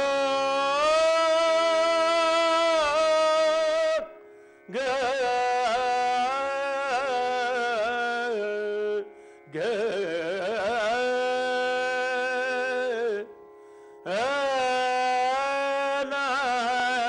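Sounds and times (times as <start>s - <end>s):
man singing: 0.0s - 4.1s, 4.7s - 13.3s, 14.1s - 17.0s.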